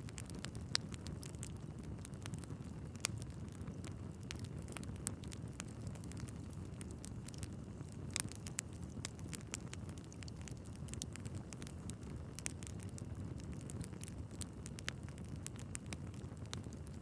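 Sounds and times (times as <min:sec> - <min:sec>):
fire flames rumbling: 0:00.0 - 0:17.0
logs crackling and popping: 0:00.0 - 0:17.0.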